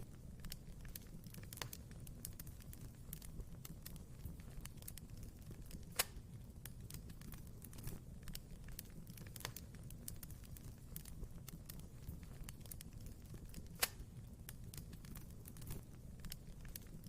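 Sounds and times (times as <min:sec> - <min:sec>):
fire crackling: 0:00.0 - 0:17.0
fire popping: 0:00.0 - 0:17.0.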